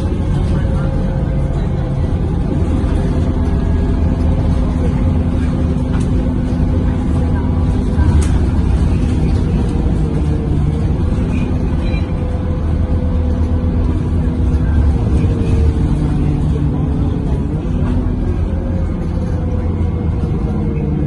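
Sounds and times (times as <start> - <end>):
bus diesel engine hum: 0.0 - 21.0.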